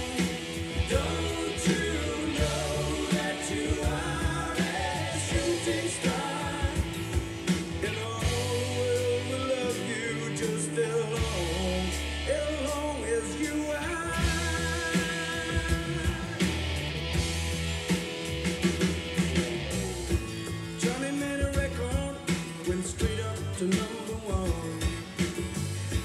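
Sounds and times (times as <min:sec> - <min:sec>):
rock song from cassette: 0:00.0 - 0:26.0.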